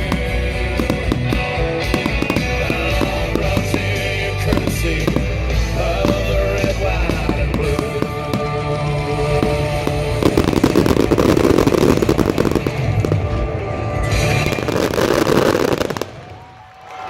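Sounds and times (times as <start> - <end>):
loud music through speakers: 0.0 - 16.0
fireworks crackling: 0.0 - 17.0.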